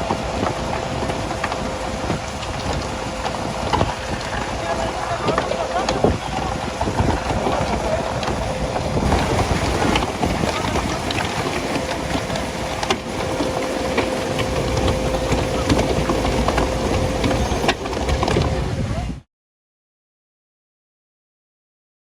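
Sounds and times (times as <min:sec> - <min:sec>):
engine running: 0:00.0 - 0:19.2
thin steady whine: 0:00.0 - 0:19.2.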